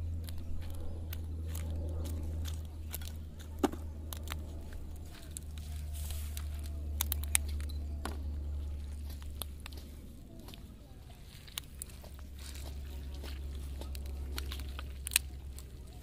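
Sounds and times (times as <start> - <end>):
footsteps on dry straw: 0.0 - 7.6, 8.2 - 16.0
steady low hum: 0.0 - 16.0.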